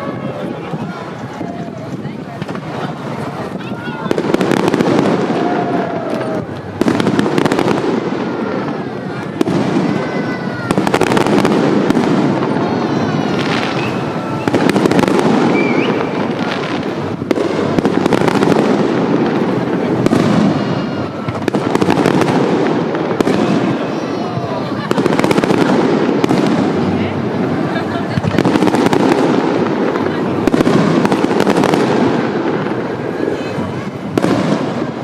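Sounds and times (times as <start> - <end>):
fireworks bursts and crackling: 0.0 - 35.0.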